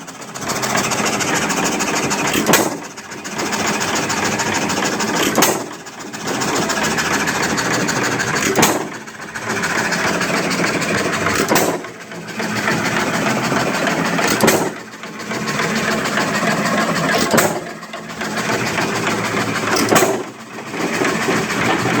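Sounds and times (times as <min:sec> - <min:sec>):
hit-and-miss engine banging: 0:00.0 - 0:22.0.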